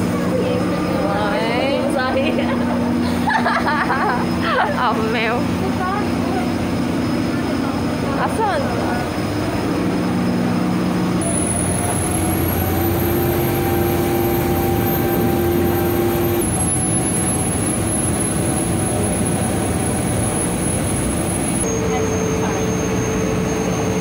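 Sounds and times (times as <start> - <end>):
ferry engine running: 0.0 - 24.0.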